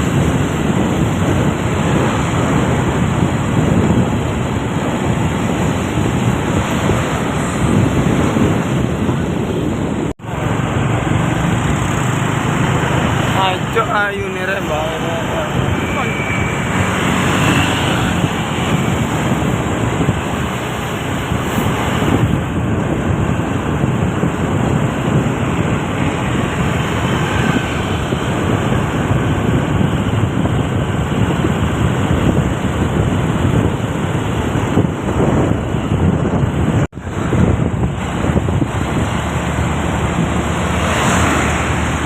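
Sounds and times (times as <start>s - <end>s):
truck driving: 0.0s - 42.0s.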